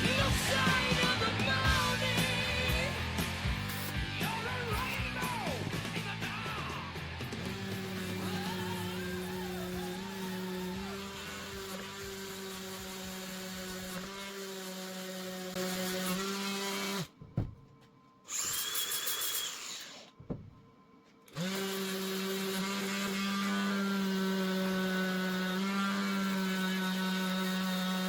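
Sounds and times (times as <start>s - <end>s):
power tool motor running: 0.0s - 17.1s, 18.3s - 20.2s, 21.3s - 28.0s.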